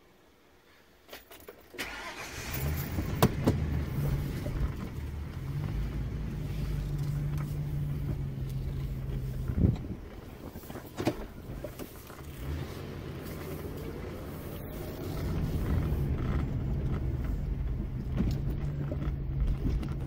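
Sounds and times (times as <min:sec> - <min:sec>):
car engine starting and idling: 0:01.7 - 0:20.0.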